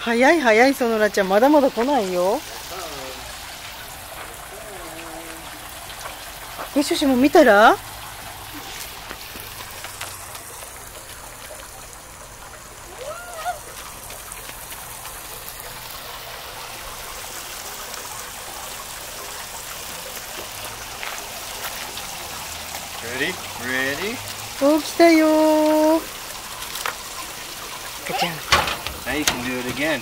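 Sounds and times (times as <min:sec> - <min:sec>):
water trickling over a ledge: 0:00.0 - 0:30.0.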